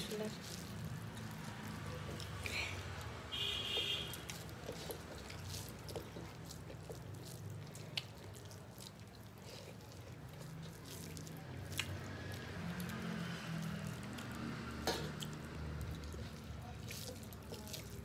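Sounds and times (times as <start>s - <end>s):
food squishing by hand: 0.0s - 18.0s.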